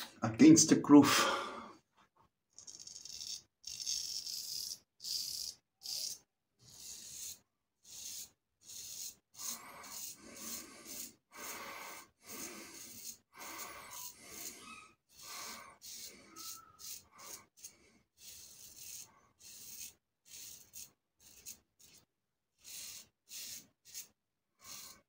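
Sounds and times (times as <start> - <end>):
razor scraping stubble: 2.6 - 25.0.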